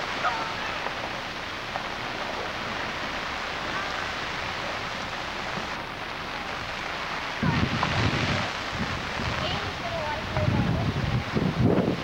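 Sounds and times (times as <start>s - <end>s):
rain on flooded street: 0.0s - 12.0s.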